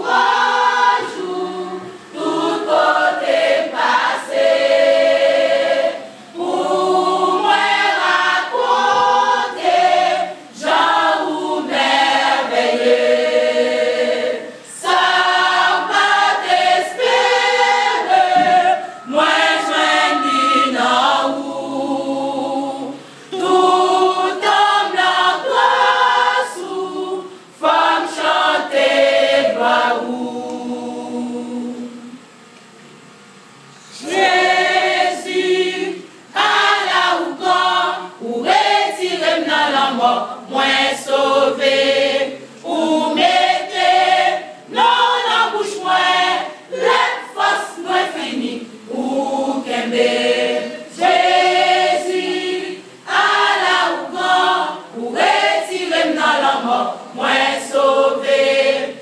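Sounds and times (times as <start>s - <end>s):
women's choir singing a cappella: 0.0s - 32.4s, 33.8s - 59.0s.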